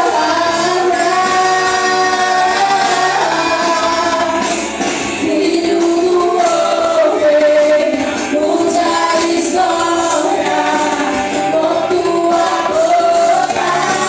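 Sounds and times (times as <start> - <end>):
group singing worship song: 0.0 - 14.0.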